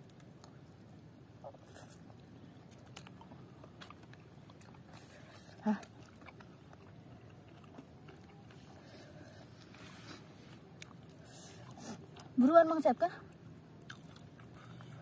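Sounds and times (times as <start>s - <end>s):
eating clicks and chews: 0.0s - 9.8s, 10.5s - 12.5s, 13.2s - 15.0s.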